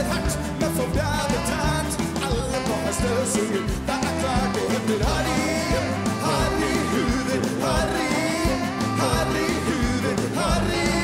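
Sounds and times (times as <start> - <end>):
man singing into a microphone: 0.0 - 11.0
rock and roll band playing: 0.0 - 11.0
steady drum beat: 0.0 - 11.0.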